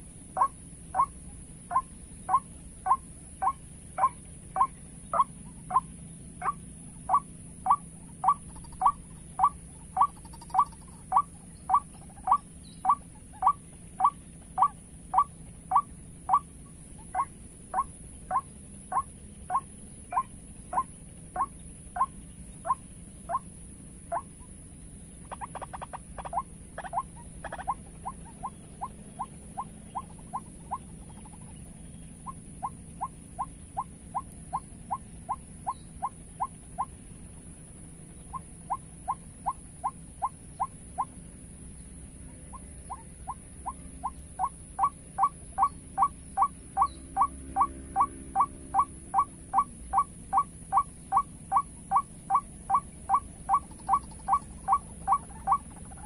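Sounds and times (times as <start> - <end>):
waterhen calling: 0.0 - 23.5, 24.1 - 24.4, 25.2 - 37.0, 42.4 - 56.0.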